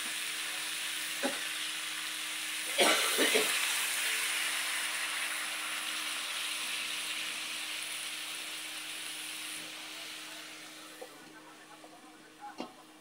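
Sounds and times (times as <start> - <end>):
food sizzling in a frying pan: 0.0 - 11.2.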